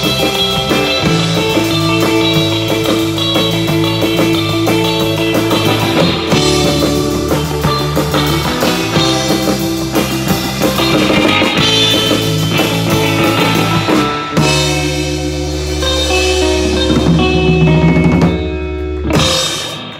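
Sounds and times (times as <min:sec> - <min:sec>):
drum kit: 0:00.0 - 0:19.9
electric guitar lead: 0:00.0 - 0:19.9
second guitar: 0:00.0 - 0:19.9.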